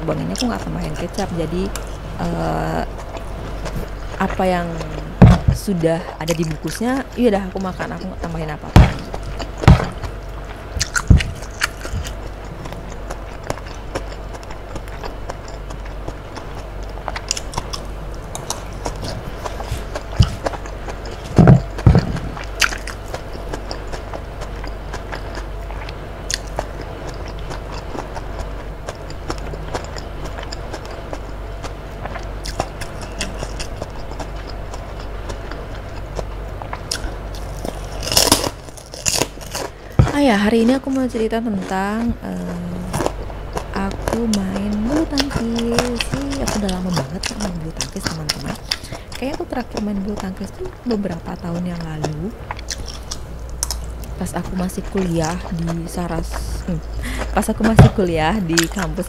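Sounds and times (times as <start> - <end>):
chewing and biting food: 0.0 - 59.0.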